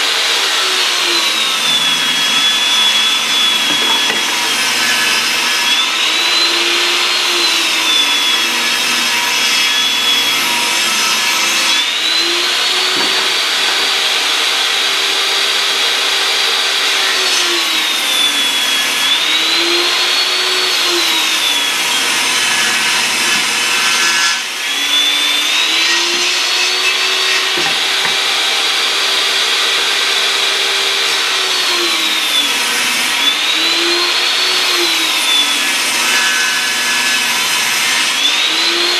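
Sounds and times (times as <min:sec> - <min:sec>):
table saw cutting wood: 0:00.0 - 0:38.9.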